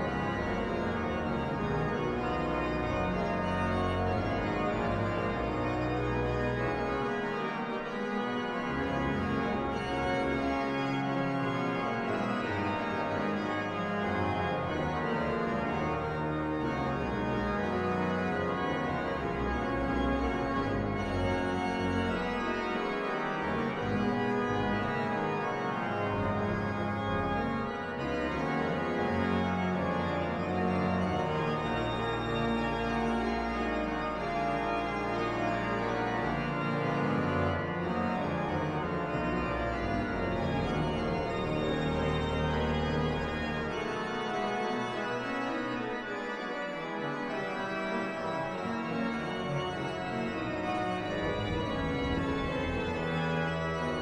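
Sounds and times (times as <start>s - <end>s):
pipe organ playing chords: 0.0s - 54.0s.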